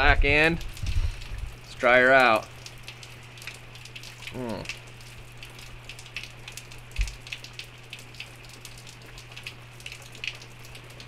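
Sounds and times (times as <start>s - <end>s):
rain falling and dripping: 0.0s - 11.0s
steady low hum: 0.0s - 11.0s.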